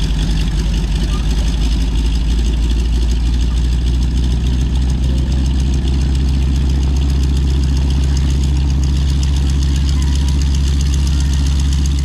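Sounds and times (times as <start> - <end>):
propeller airplane engine idling: 0.0 - 12.0.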